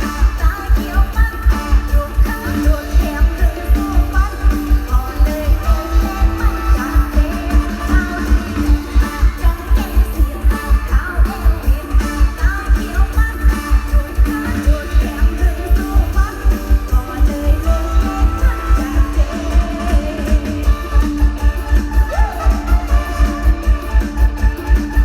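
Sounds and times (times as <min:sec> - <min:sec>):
band music through sound system: 0:00.0 - 0:25.0
heavy bass drum beat: 0:00.0 - 0:25.0.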